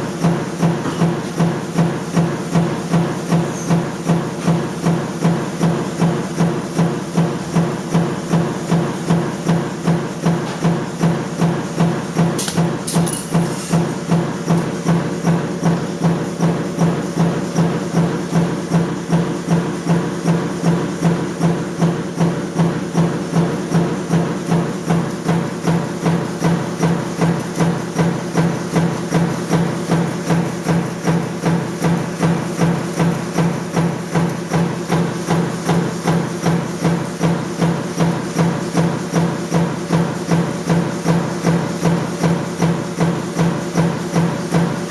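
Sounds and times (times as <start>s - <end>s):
stamping press knocking: 0.0s - 44.9s.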